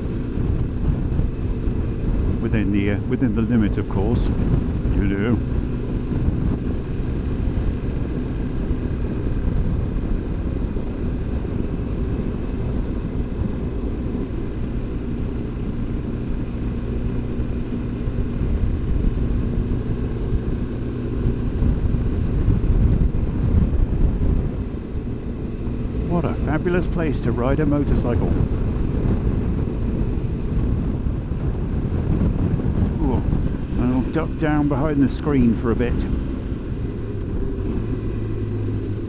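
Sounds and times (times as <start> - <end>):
motorcycle engine running: 0.0 - 39.0
wind rush: 0.0 - 39.0.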